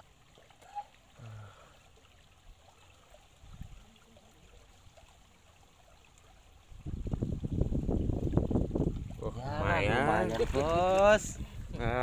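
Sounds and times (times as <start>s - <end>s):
faint trickle of water: 0.0s - 12.0s.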